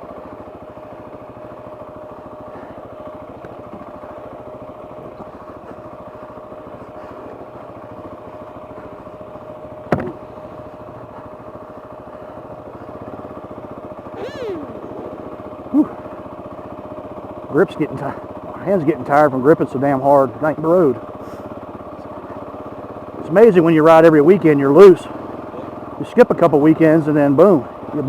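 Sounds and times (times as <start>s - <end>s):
motorcycle engine running: 0.0s - 26.1s.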